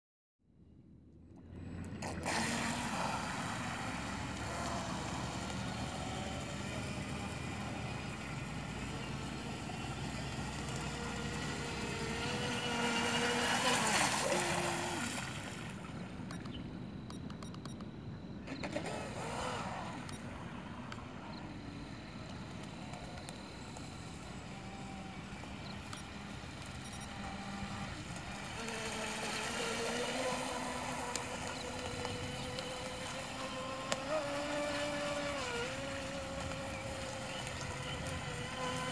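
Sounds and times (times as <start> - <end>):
model speedboat motor rushing: 1.3 - 38.9.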